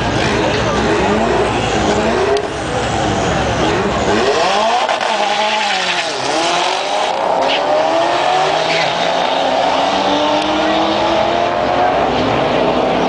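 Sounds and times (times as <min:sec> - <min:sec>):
cars accelerating hard: 0:00.0 - 0:13.0.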